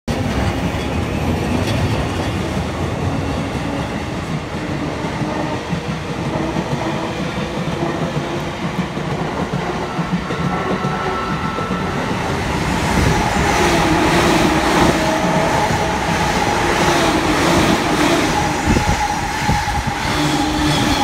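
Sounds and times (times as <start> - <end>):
train wheels rumbling on rails: 0.1 - 21.0.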